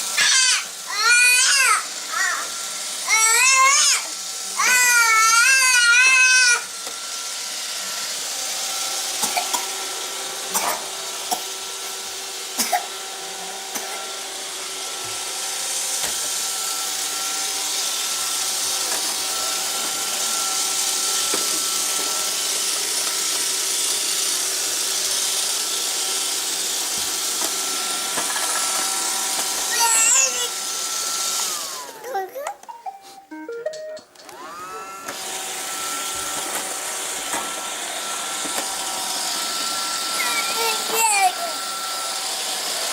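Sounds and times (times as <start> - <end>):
robot vacuum whirring: 0.0 - 32.5, 34.2 - 42.9.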